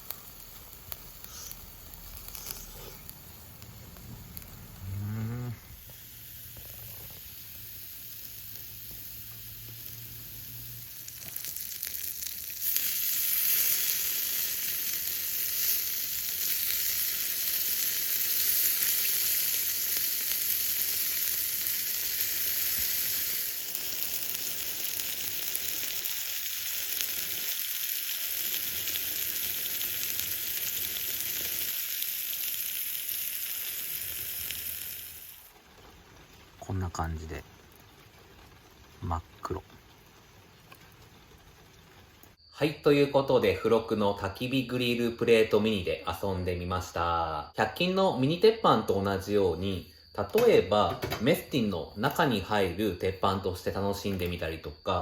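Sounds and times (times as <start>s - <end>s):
food sizzling on a griddle: 0.0s - 42.5s, 50.4s - 55.0s.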